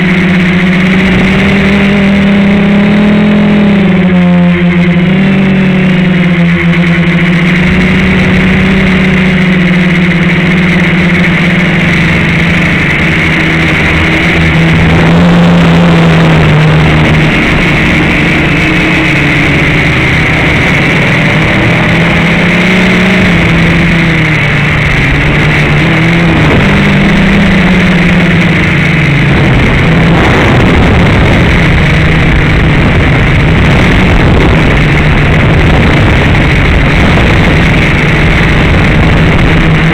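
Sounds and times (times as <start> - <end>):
quadcopter motors buzzing: 0.0 - 39.9
rushing noise: 0.0 - 39.9.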